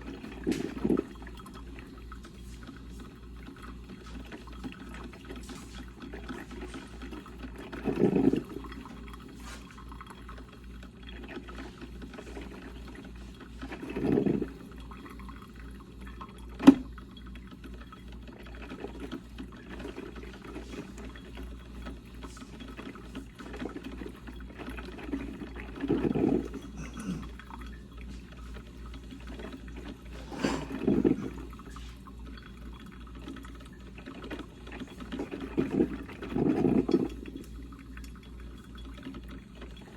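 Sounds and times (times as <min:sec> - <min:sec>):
percolator coffee maker gurgling: 0:00.0 - 0:39.9.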